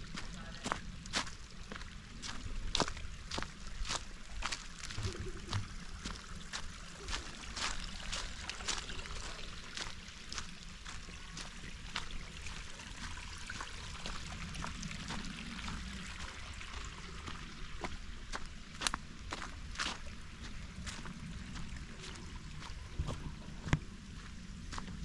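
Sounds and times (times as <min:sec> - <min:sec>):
footsteps on gravel trail: 0:00.0 - 0:25.0.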